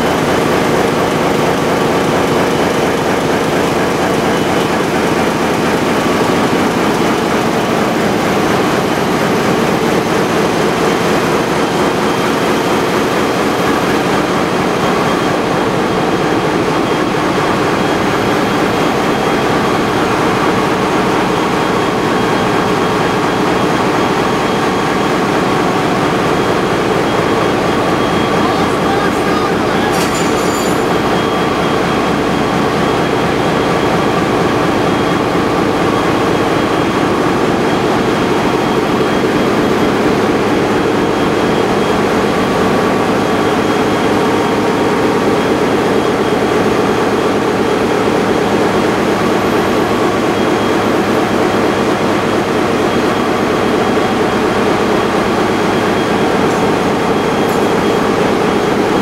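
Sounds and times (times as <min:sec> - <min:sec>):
diesel engine room drone: 0:00.0 - 0:59.0.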